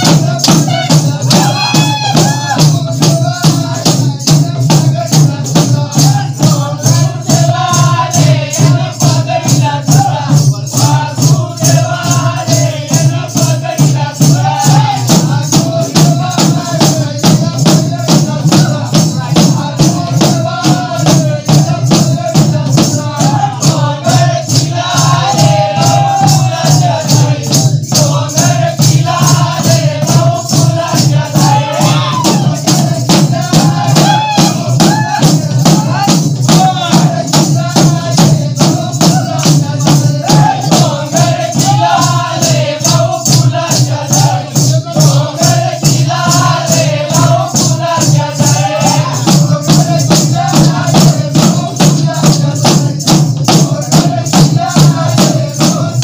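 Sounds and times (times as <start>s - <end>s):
drums in fast steady beat: 0.0s - 56.0s
man singing: 0.0s - 56.0s.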